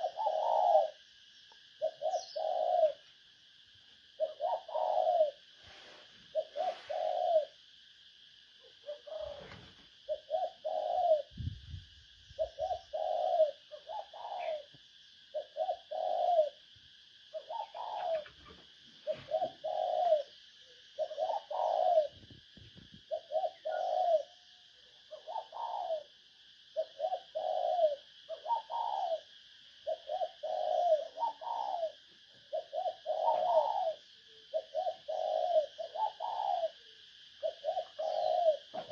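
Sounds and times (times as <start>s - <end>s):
dove cooing: 0.0s - 1.0s, 1.8s - 3.1s, 4.1s - 7.6s, 8.6s - 11.6s, 12.3s - 16.7s, 17.3s - 38.9s
steady high hiss: 0.0s - 38.9s.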